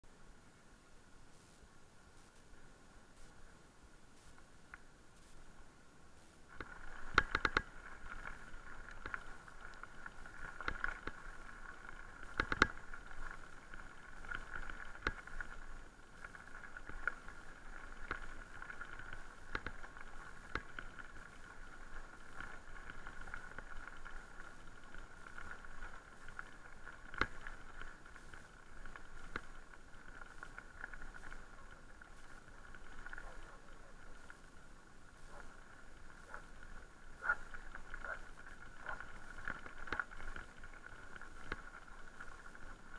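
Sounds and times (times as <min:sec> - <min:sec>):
bike rattling over gravel: 0:06.4 - 0:42.9.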